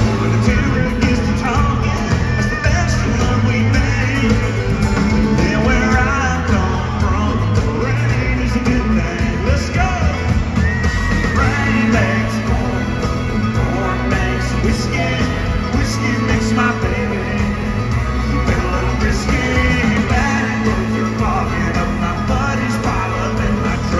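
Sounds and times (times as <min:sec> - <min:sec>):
electric guitars: 0:00.0 - 0:23.9
live country band playing: 0:00.0 - 0:23.9
person singing: 0:00.0 - 0:23.9.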